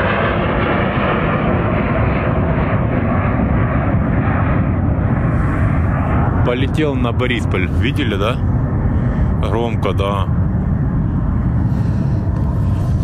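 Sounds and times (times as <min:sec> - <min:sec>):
jet aircraft roaring overhead: 0:00.0 - 0:13.0.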